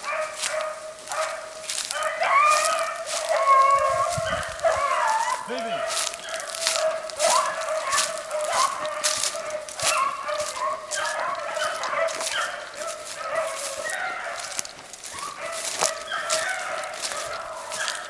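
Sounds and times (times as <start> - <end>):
dogs baying: 0.0 - 18.0.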